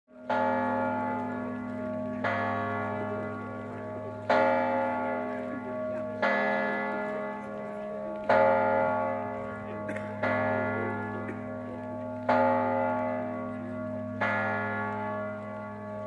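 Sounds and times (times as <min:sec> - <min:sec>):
church bell tolling: 0:00.1 - 0:16.0.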